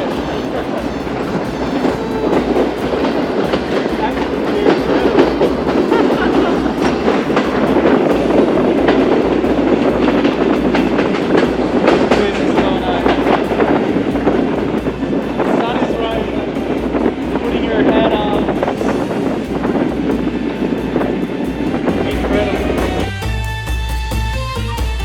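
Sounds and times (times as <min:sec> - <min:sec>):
train rumbling at speed: 0:00.0 - 0:24.4.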